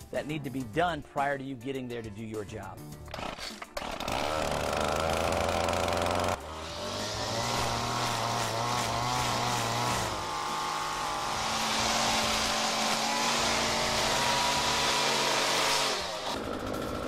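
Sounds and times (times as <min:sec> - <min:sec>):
string trimmer engine running: 0:03.1 - 0:17.0.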